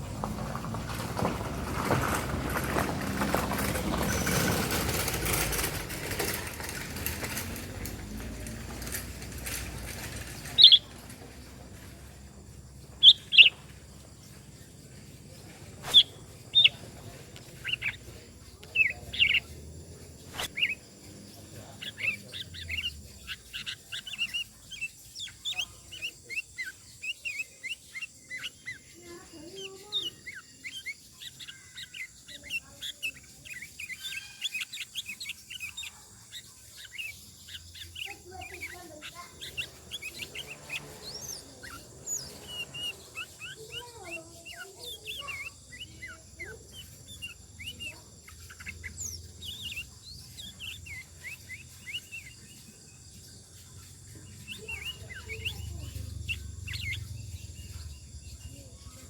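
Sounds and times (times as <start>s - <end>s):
bird chirping rapidly: 0.0s - 59.0s
bird clucking phrases: 1.2s - 14.5s, 15.2s - 20.8s, 21.4s - 52.8s, 54.0s - 59.0s.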